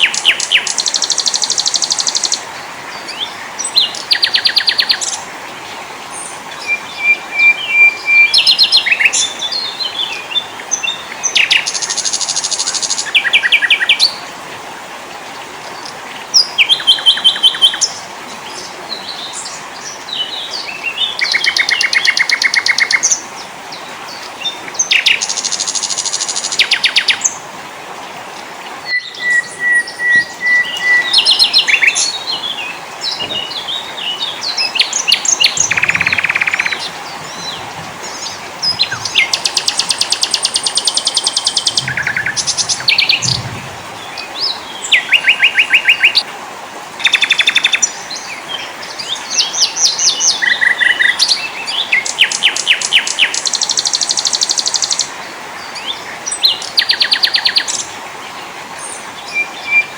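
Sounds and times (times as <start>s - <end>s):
songbirds singing: 0.0s - 46.3s, 46.9s - 59.9s
steady background hiss: 0.0s - 59.9s.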